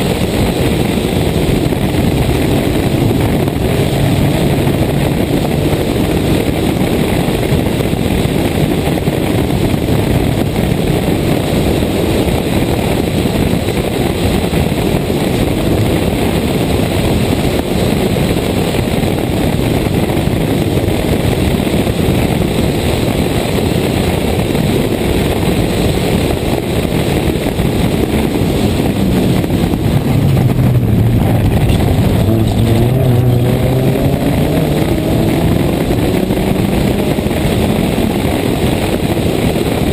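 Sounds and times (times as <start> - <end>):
rally car engine revving: 0.0 - 39.9
wind rush on microphone: 0.0 - 39.9.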